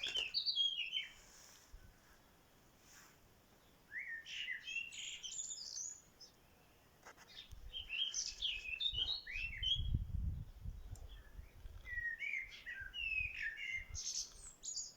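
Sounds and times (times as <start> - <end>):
small birds chirping: 0.0 - 1.8, 3.5 - 14.9.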